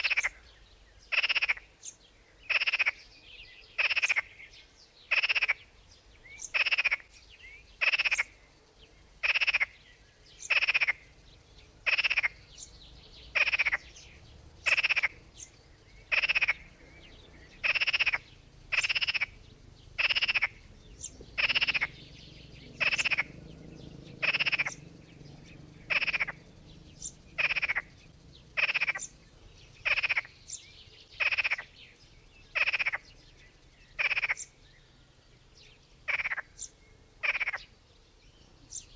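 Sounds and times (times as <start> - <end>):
frog croaking: 0.0 - 0.4, 1.1 - 1.7, 2.5 - 3.1, 3.8 - 4.4, 5.1 - 5.7, 6.4 - 7.2, 7.8 - 8.4, 9.2 - 34.6, 36.0 - 37.7.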